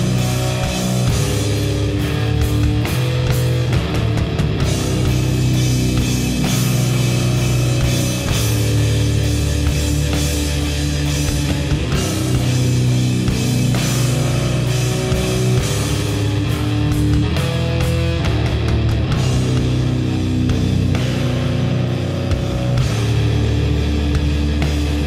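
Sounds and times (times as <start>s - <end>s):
distorted electric guitars: 0.0s - 25.0s
pounding drum kit: 0.0s - 25.0s.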